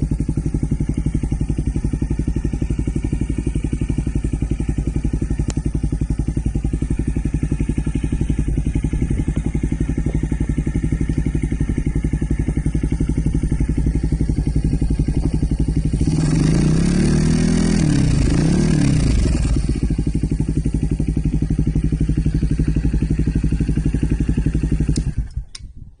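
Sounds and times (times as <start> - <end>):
motorcycle engine revving: 0.0 - 25.6
motorcycle engine idling: 0.0 - 26.0.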